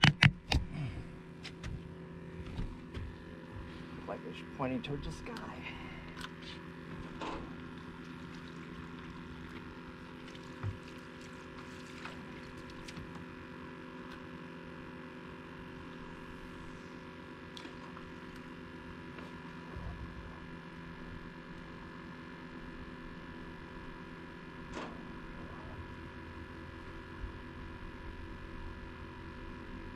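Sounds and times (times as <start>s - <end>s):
layered electrical hum: 0.0s - 29.9s.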